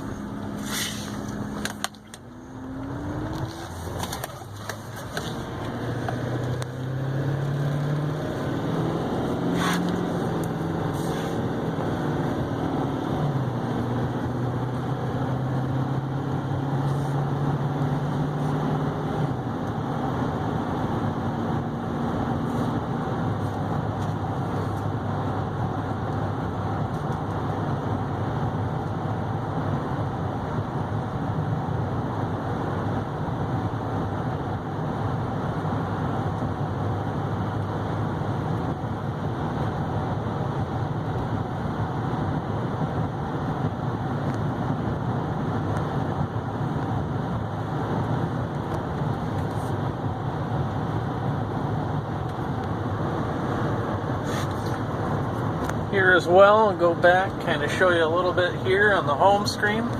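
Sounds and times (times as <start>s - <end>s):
diesel engine and road noise: 0.0s - 59.9s.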